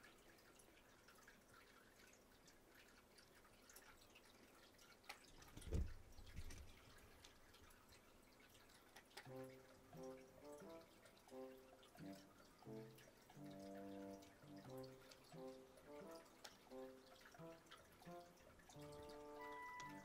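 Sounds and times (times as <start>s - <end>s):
faint small ticks: 0.0s - 20.0s.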